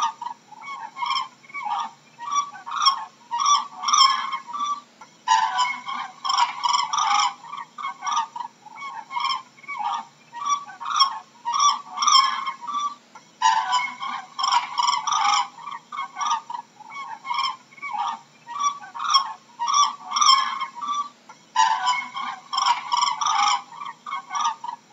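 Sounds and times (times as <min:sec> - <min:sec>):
cranes calling: 0:00.0 - 0:24.8.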